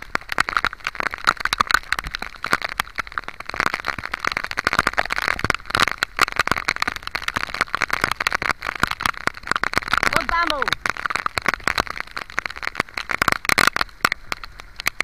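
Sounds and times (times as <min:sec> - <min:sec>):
heavy rain pelting down: 0:00.0 - 0:15.0.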